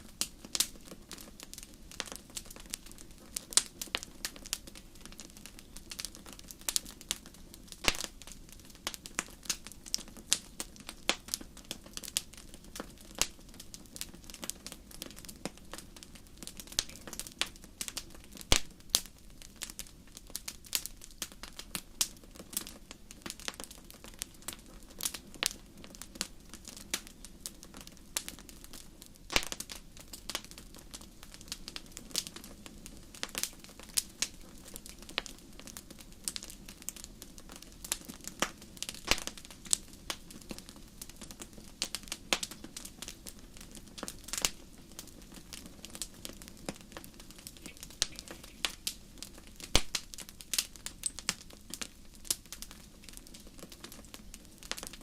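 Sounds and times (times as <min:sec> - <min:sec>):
fire crackling and popping: 0:00.0 - 0:55.0
flames roaring low: 0:00.0 - 0:55.0.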